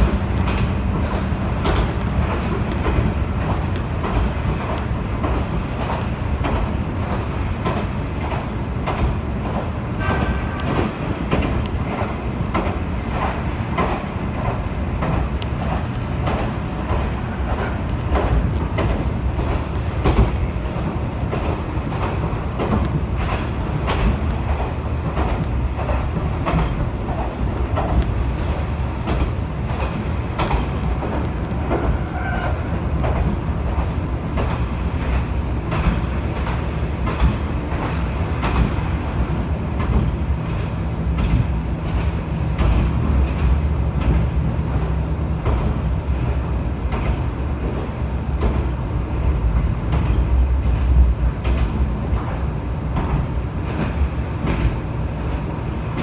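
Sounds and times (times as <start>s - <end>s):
train engine and wheels rumbling: 0.0s - 56.0s
wheels clicking over rail joints: 0.0s - 56.0s.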